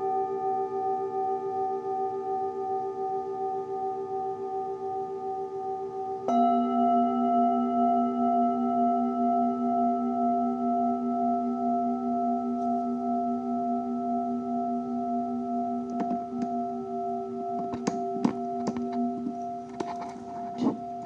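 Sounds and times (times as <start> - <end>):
singing bowl ringing: 0.0 - 21.0.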